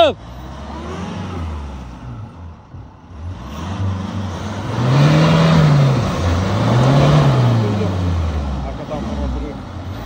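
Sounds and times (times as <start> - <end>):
truck engine revving in mud: 0.0 - 10.0.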